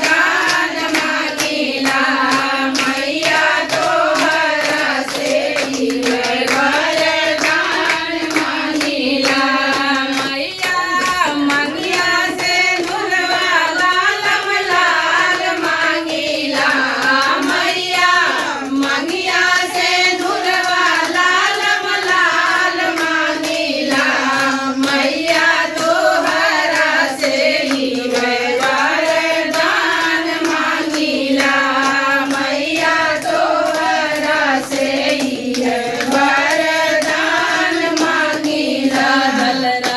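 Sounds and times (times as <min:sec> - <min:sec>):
hand claps: 0:00.0 - 0:39.9
women singing in unison: 0:00.0 - 0:39.9.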